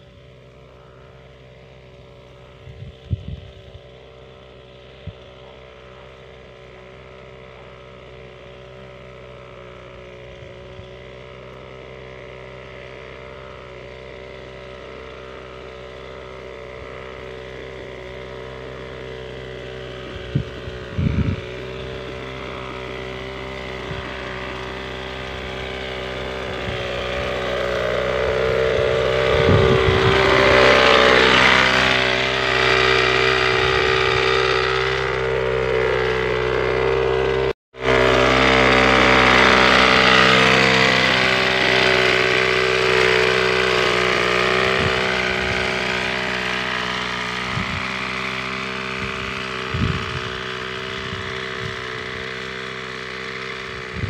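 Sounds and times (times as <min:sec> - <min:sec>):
small sprayer engine running: 0:00.0 - 0:54.0.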